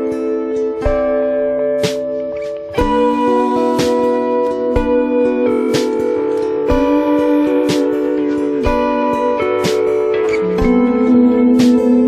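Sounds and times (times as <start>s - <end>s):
guitar strumming: 0.0s - 12.0s
sustained chords: 0.0s - 12.0s.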